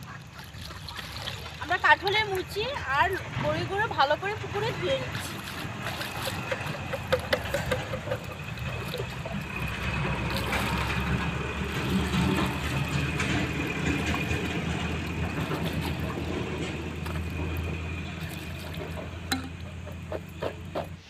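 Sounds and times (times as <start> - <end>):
low engine hum: 0.0 - 21.0
water sloshing and lapping: 0.0 - 21.0.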